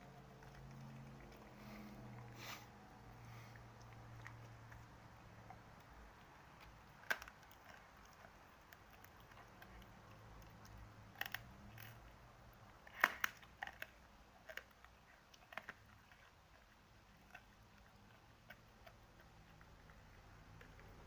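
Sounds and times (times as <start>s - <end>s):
dogs chewing with crunches: 0.0s - 21.0s.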